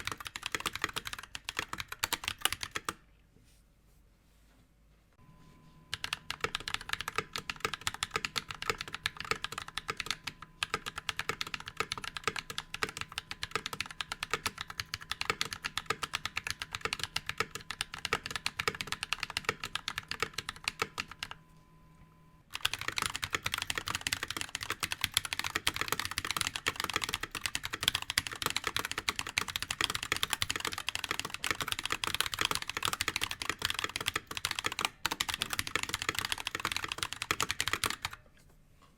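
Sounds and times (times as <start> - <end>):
fast keyboard typing: 0.0 - 3.0, 5.9 - 21.4, 22.5 - 38.2.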